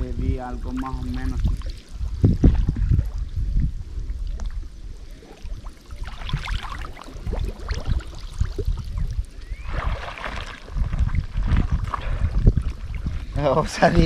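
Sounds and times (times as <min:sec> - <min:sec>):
water splashing and sloshing: 0:00.6 - 0:14.0.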